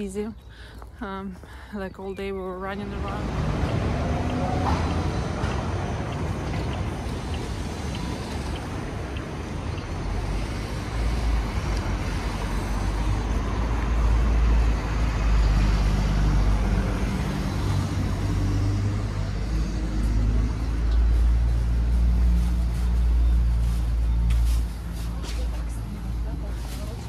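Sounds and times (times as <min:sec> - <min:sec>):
buses and cars passing: 0:00.0 - 0:27.0.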